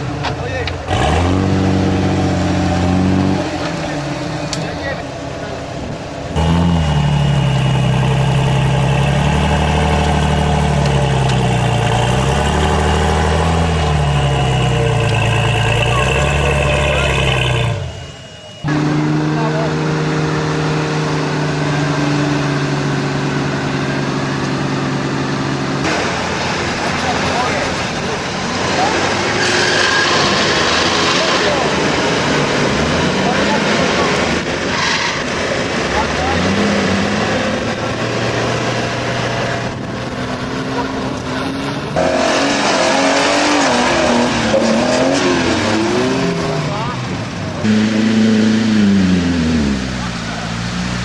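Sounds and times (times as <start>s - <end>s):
truck engine running: 0.0s - 29.4s, 30.0s - 51.0s
rough noisy engine: 0.0s - 51.0s.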